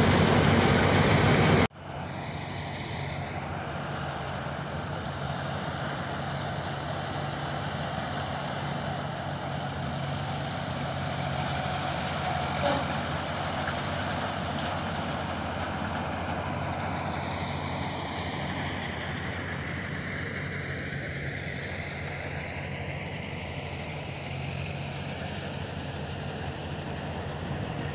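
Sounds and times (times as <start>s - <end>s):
combine harvester engine drone: 0.0s - 27.9s.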